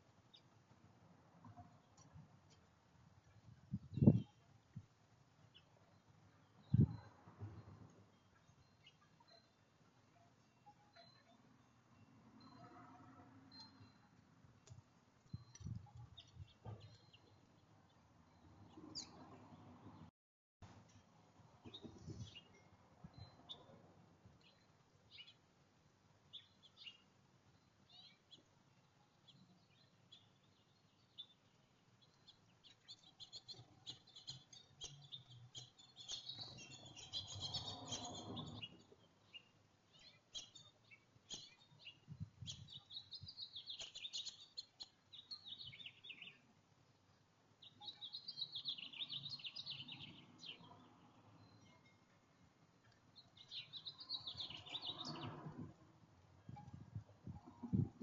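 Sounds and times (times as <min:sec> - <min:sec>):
songbirds chirping: 0:00.0 - 0:20.1, 0:20.8 - 0:58.0.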